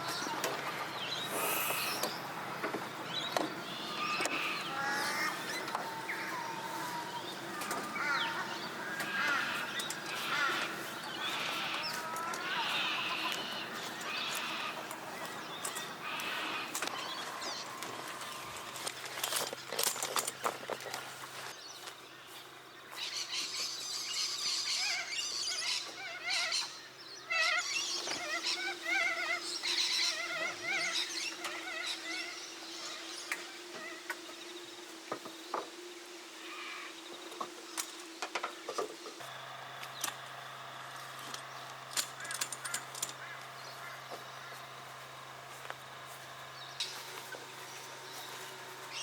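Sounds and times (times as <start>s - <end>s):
birds calling and whistling: 0.0s - 49.0s.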